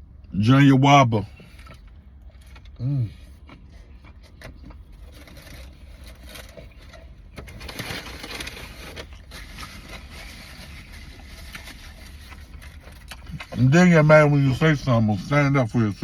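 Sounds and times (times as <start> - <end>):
low steady hum: 0.0 - 16.0
chewing: 1.2 - 15.4
rustling: 1.4 - 15.3.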